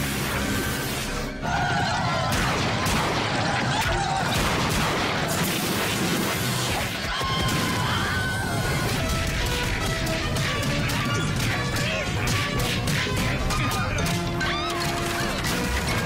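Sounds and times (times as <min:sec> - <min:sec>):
action music: 0:00.0 - 0:16.0.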